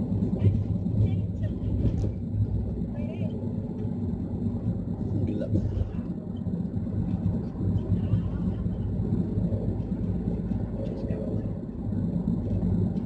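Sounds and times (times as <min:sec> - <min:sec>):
car engine and tyre drone: 0:00.0 - 0:13.0.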